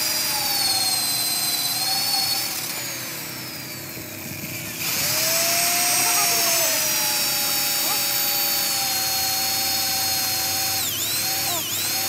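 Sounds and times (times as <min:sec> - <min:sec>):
power tool motor whining: 0:00.0 - 0:12.0.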